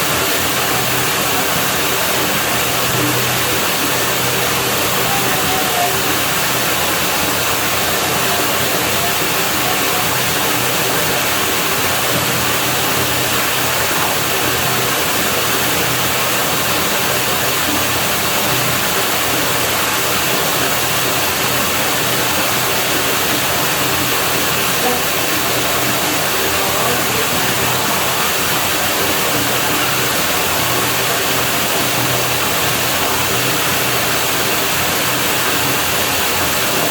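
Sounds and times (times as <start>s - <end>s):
running water rushing: 0.0s - 36.9s.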